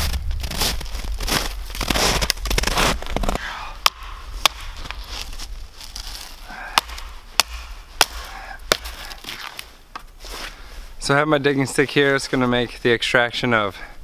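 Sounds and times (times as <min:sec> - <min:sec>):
rustling: 0:00.0 - 0:12.8
soft crunching: 0:00.0 - 0:12.8.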